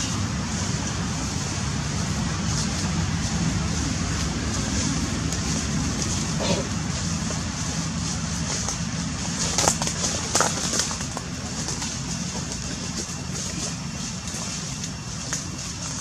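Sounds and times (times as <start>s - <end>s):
high steady hiss: 0.0s - 16.0s
low motor-like hum: 0.0s - 16.0s.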